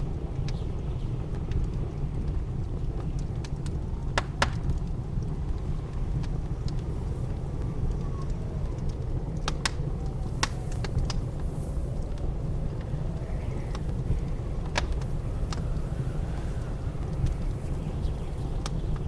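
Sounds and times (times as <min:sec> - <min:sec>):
low rumble of blizzard wind: 0:00.0 - 0:19.0
wood fire crackling and popping: 0:00.0 - 0:19.0.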